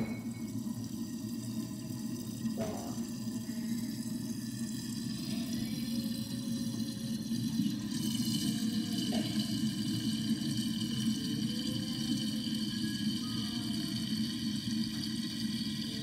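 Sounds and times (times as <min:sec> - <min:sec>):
water draining from a sink: 0:00.0 - 0:16.0.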